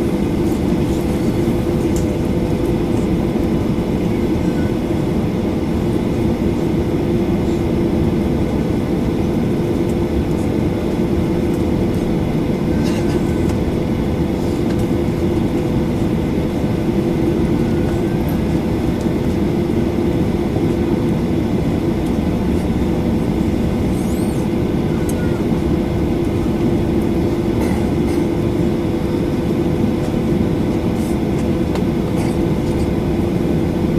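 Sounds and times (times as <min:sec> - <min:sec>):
airplane cabin engine roar: 0:00.0 - 0:33.9.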